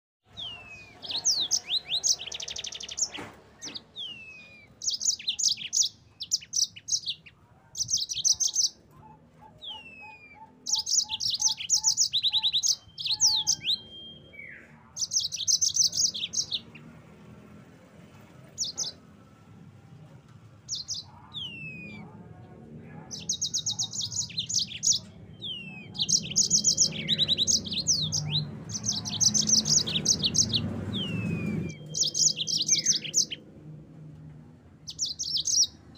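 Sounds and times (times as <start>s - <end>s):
canary singing fast high trills: 0.3s - 17.0s, 18.6s - 19.0s, 20.7s - 22.2s, 23.0s - 33.4s, 34.9s - 35.9s.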